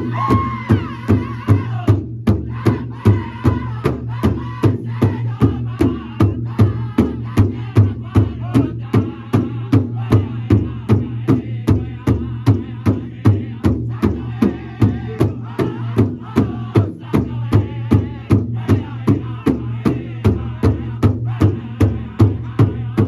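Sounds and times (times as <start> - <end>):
group singing: 0.0 - 23.0
large drum beating: 0.0 - 23.0.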